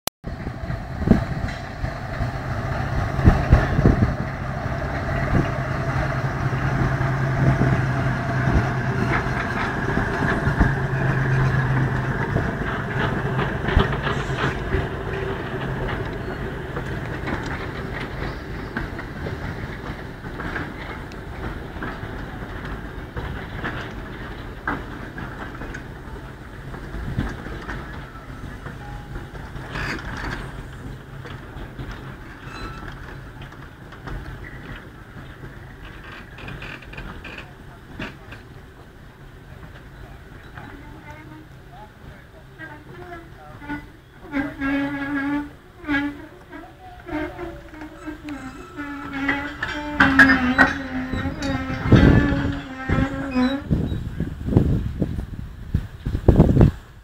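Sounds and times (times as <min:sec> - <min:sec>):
diesel locomotive engine drone: 0:00.2 - 0:57.0
wagons clanking over rail joints: 0:00.3 - 0:56.7.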